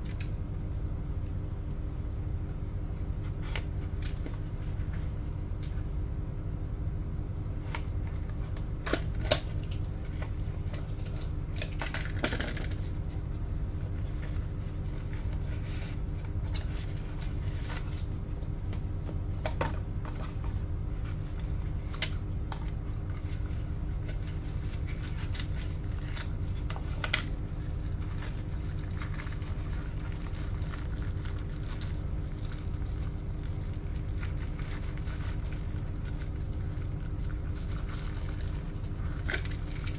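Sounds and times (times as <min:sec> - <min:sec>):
low hum: 0:00.0 - 0:39.9
paper and card rustle: 0:03.2 - 0:05.9, 0:07.6 - 0:39.9.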